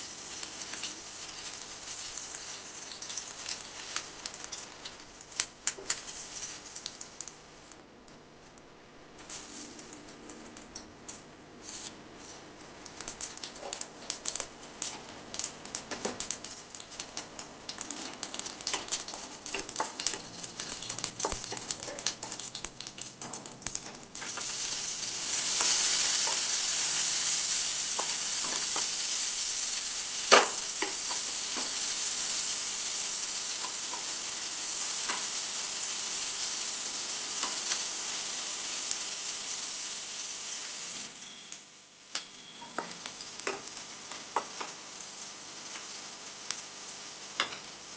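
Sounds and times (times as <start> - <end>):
food sizzling in pan: 0.0 - 7.4, 11.6 - 47.9.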